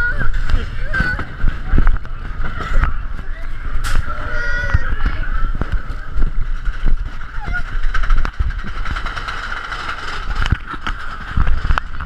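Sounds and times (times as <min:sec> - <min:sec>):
roller coaster rattling on track: 0:00.0 - 0:12.0.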